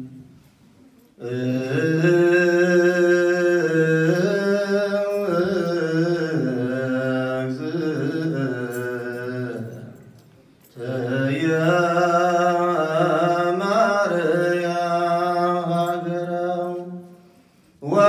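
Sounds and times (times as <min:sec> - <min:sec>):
man chanting: 0:01.2 - 0:10.0, 0:10.8 - 0:17.0.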